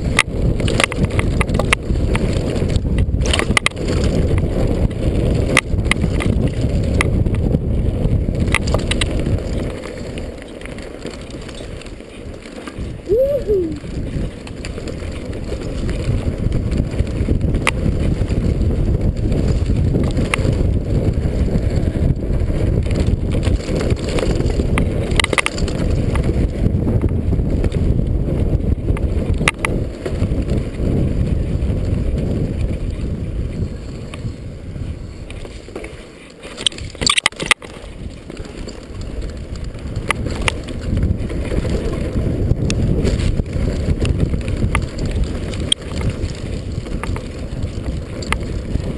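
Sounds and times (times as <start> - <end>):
bike clicks and rattles: 0.0 - 48.9
wind and tyres on dirt trail: 0.0 - 48.9.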